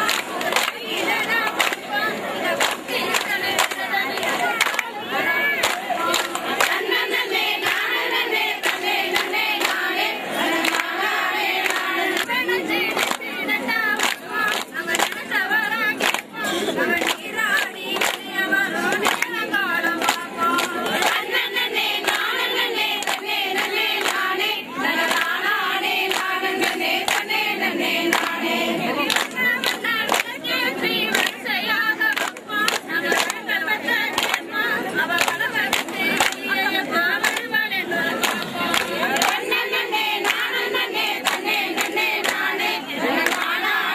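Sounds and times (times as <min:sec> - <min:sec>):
hand claps: 0:00.0 - 0:43.9
women singing together: 0:00.0 - 0:43.9.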